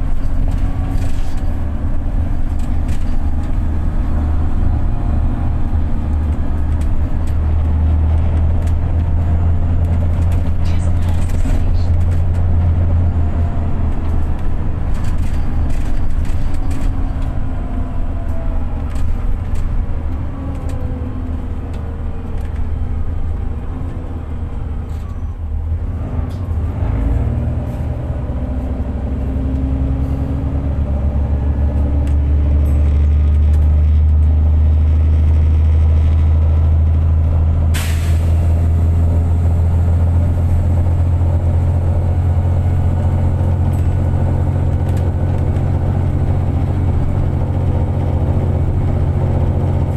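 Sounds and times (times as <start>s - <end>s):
bus engine droning: 0.0s - 49.9s.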